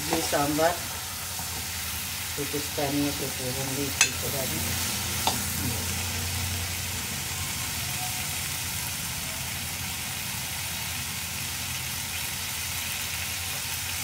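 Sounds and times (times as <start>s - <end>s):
vegetables sizzling in ghee: 0.0s - 14.0s.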